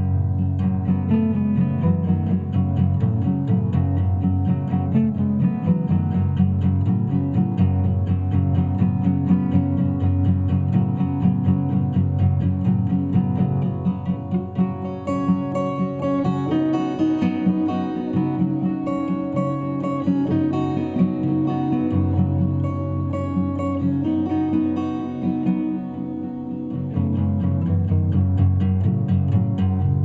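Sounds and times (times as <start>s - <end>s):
acoustic guitar instrumental: 0.0s - 30.0s.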